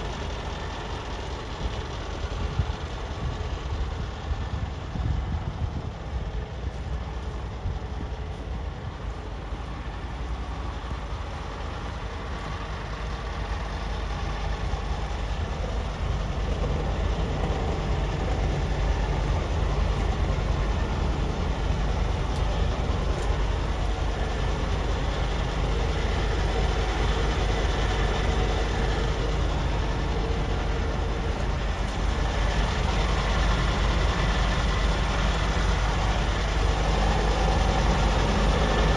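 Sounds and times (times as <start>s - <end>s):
truck diesel engine rumbling: 0.0s - 38.9s.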